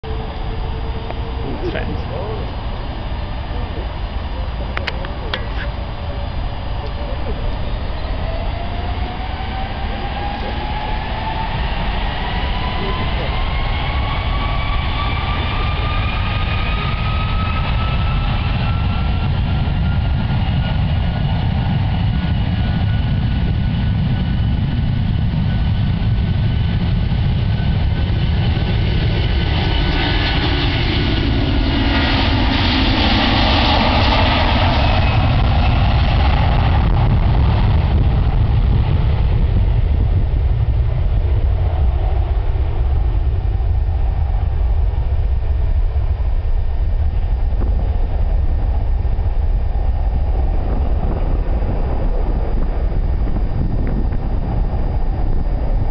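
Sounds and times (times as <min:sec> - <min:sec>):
jet airliner taking off: 0:00.0 - 0:55.9
low rumble: 0:00.0 - 0:55.9.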